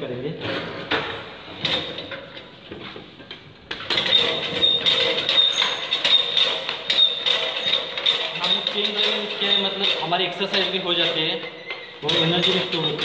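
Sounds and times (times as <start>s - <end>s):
pedal air compressor rattling: 0.4s - 13.0s.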